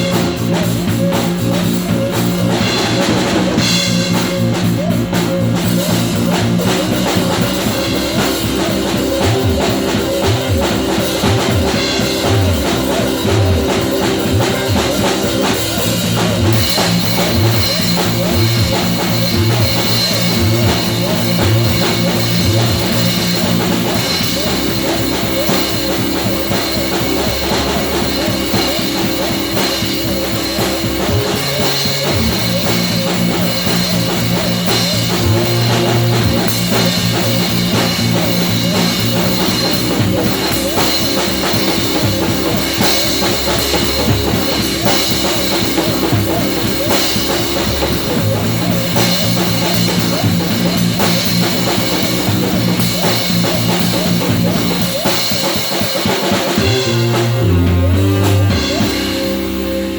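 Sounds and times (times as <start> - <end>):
rock music with drums and guitar: 0.0 - 59.9.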